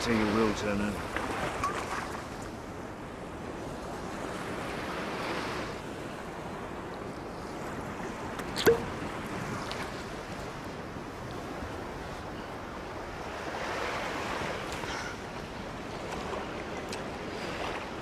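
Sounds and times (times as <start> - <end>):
sea waves washing onto beach: 0.0 - 18.0.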